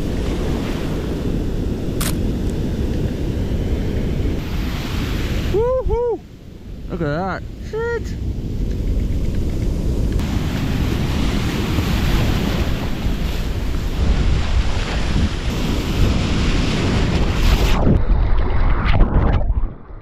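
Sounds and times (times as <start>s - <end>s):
breaking surf: 0.0s - 7.0s, 8.0s - 20.0s
wind buffeting microphone: 0.0s - 20.0s.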